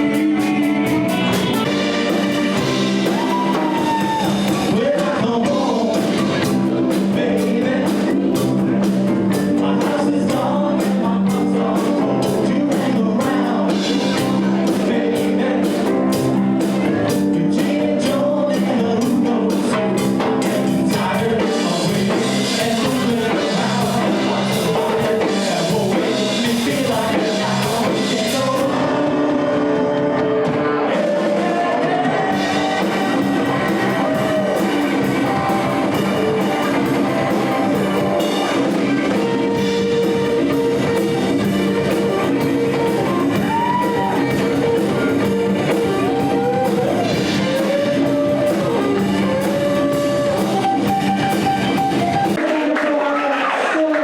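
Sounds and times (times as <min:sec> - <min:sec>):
rock band playing: 0:00.0 - 0:52.5
person singing: 0:00.0 - 0:54.0.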